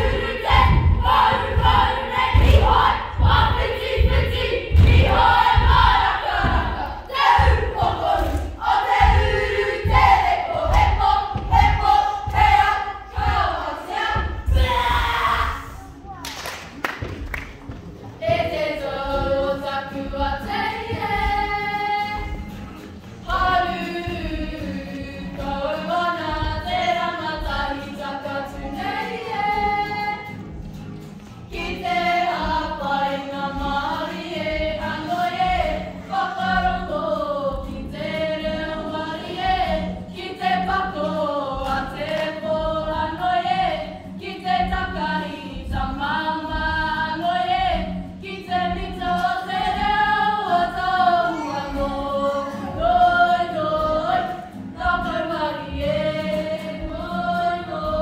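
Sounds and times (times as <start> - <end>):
girls choir singing: 0.0 - 16.0, 18.0 - 30.6, 31.4 - 58.0.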